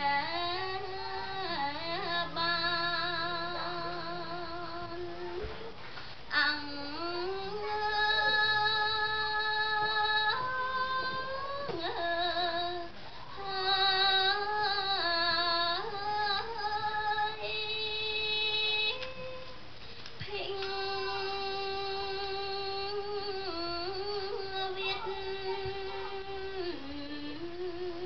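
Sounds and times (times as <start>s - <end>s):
woman chanting into a microphone: 0.0s - 19.6s, 20.2s - 28.0s.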